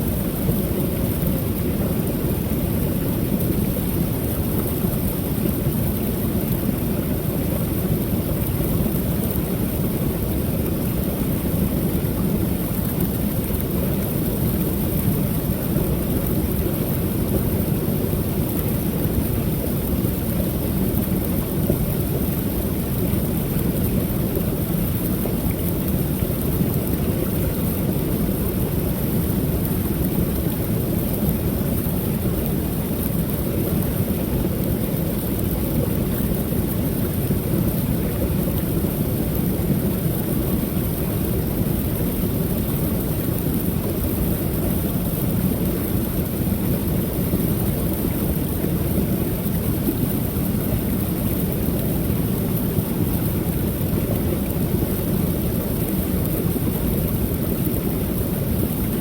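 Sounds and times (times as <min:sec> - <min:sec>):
small waterfall pouring: 0:00.0 - 0:59.0.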